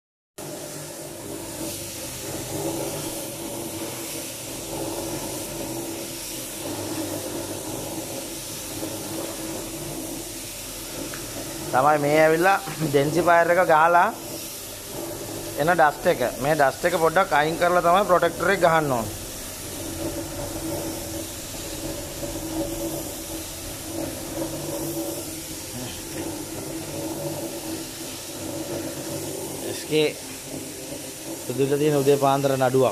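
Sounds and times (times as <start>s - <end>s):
floor polishing machine motor hum: 0.4s - 32.9s
hiss of spinning pad: 0.4s - 32.9s.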